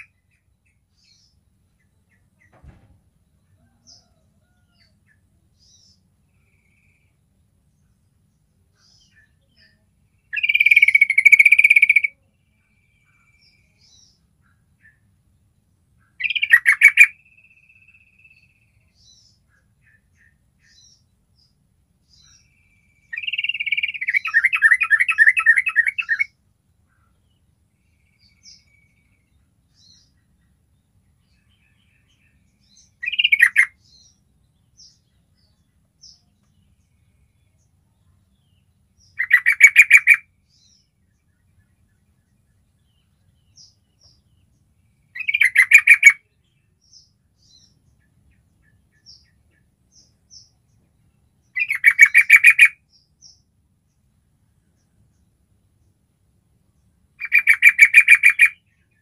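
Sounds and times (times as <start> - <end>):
bird song phrases: 0.0 - 59.0.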